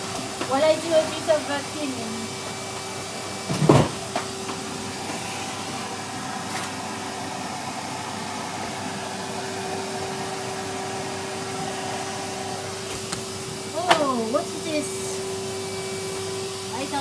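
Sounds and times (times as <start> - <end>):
vacuum cleaner humming: 0.0 - 17.0.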